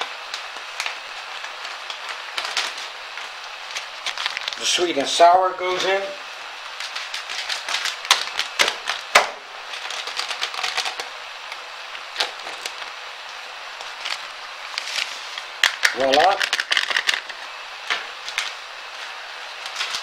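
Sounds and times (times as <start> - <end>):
sharp pops and crackles: 0.0 - 4.7, 6.7 - 18.6.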